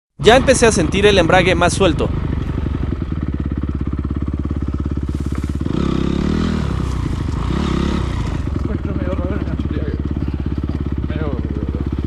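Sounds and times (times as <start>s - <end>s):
motocross bike engine idling: 0.2s - 12.0s.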